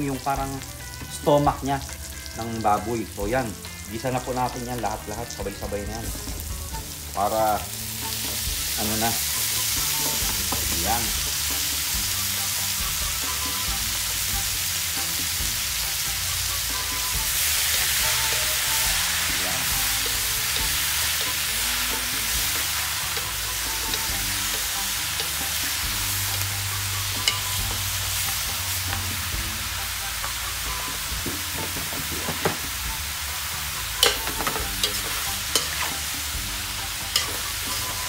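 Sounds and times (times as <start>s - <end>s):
meat sizzling in a wok: 0.0s - 38.0s.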